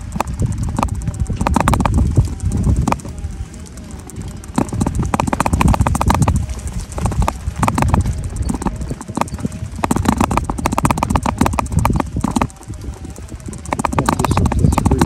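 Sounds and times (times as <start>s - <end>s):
bike and phone mount rattling: 0.0s - 15.0s
heavy low rumble: 0.0s - 15.0s
wind on microphone: 0.0s - 15.0s.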